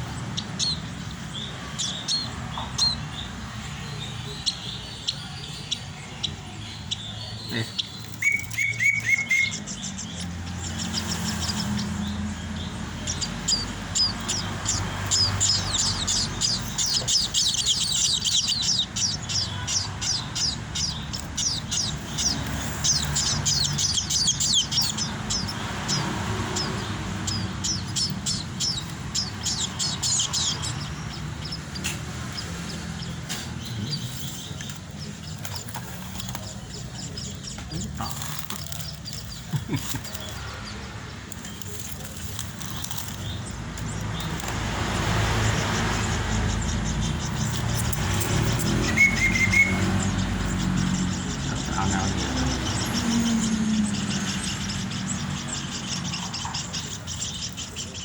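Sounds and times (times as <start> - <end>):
nestlings begging chirps: 0.0 - 58.0.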